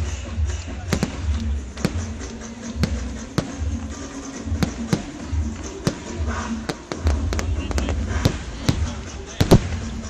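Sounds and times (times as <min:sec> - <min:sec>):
fireworks bangs and cracks: 0:00.4 - 0:10.0.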